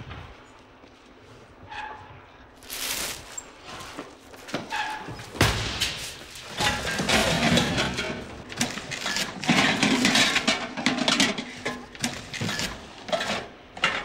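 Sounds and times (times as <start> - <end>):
boxes handled and scraping: 0.4 - 13.8.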